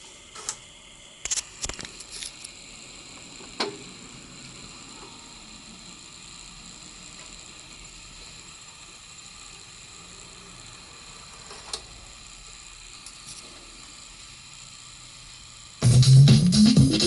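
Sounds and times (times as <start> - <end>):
turntable hiss and hum: 0.0 - 17.0.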